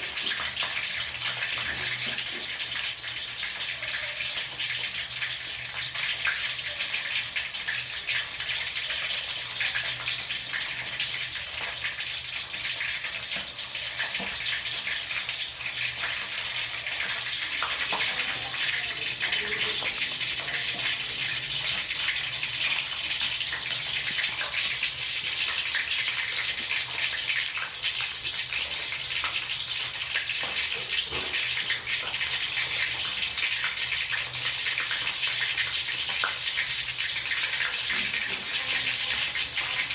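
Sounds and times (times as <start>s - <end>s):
hot oil sizzling with crackles: 0.0s - 39.9s.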